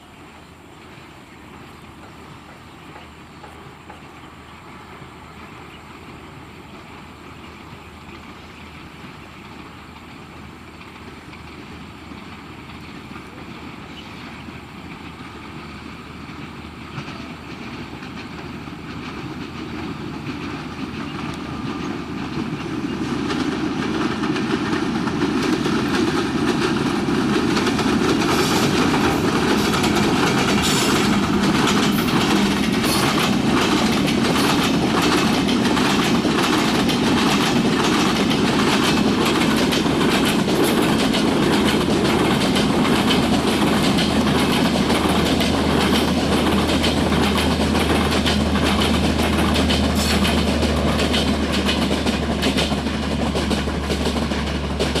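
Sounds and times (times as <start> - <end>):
passenger train approaching: 0.0 - 55.0
wheels clacking over rail joints: 0.7 - 55.0.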